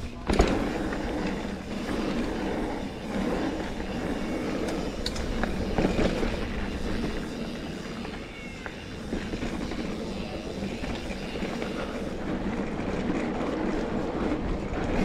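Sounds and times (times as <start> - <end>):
bike clicks and rattles: 0.0 - 15.0
bike tyre rumble on dirt: 0.0 - 15.0.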